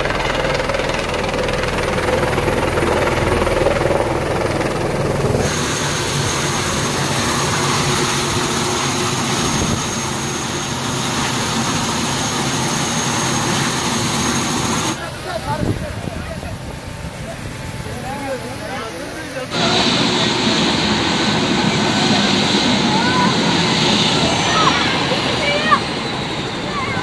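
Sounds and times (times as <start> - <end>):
helicopter rotor rumble: 0.0 - 27.0
helicopter turbine whine: 0.0 - 27.0.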